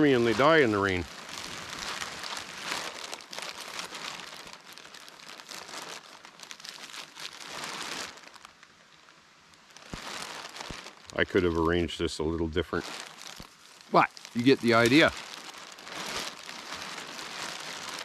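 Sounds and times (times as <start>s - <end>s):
plastic bag crinkling: 0.0s - 8.7s, 9.5s - 11.8s, 12.6s - 18.0s.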